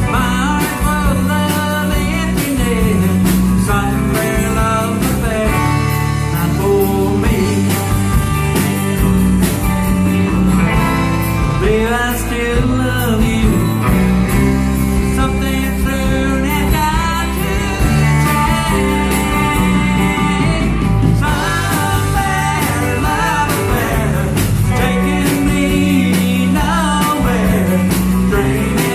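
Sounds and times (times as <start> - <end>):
bass line: 0.0 - 28.9
guitar: 0.0 - 28.9.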